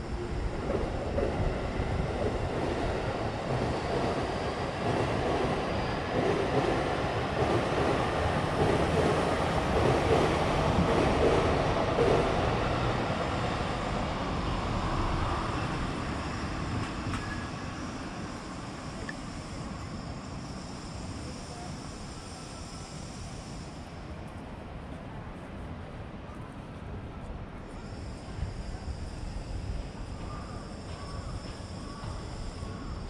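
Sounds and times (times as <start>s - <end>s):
electric train passing: 0.0s - 25.2s, 26.9s - 33.0s.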